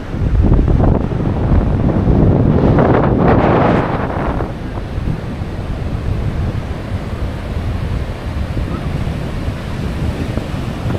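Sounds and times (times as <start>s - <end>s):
ocean surf on beach: 0.0s - 10.9s
wind buffeting microphone: 0.0s - 10.9s.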